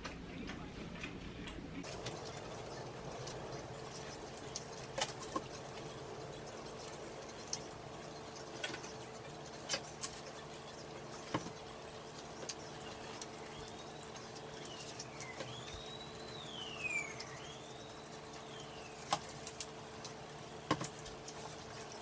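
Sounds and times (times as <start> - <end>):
low hum: 1.8 - 22.0.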